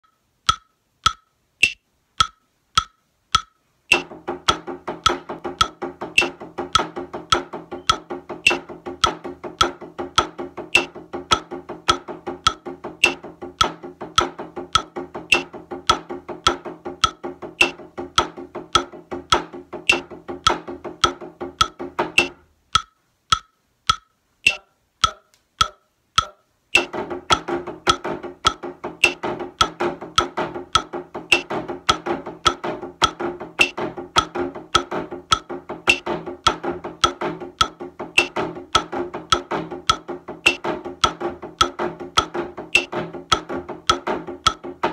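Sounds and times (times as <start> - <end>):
drumsticks on practice pads: 0.0 - 44.9
metronome clicking: 0.0 - 44.9.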